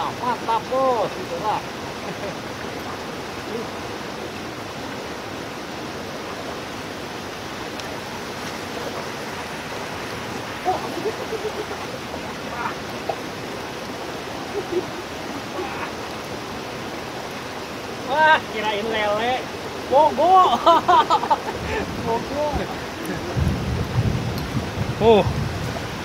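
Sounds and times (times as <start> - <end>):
rain and running water: 0.0 - 26.0.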